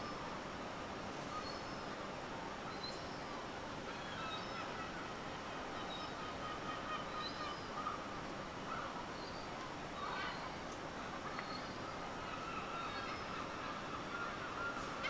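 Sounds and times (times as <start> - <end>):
steady background hiss: 0.0 - 15.0
faint bird calls: 2.7 - 15.0.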